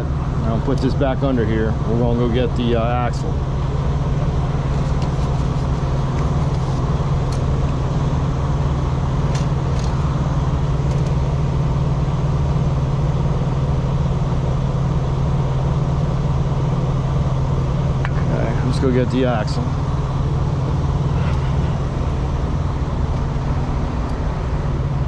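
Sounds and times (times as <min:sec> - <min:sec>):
engine idling drone: 0:00.0 - 0:25.0.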